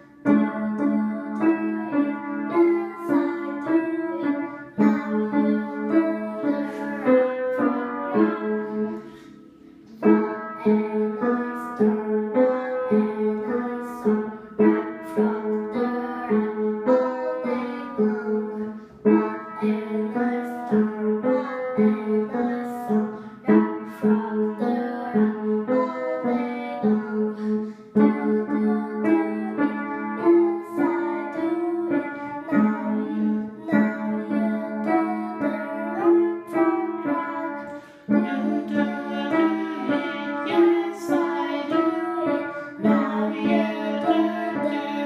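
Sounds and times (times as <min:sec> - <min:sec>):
upright piano playing: 0:00.0 - 0:45.0.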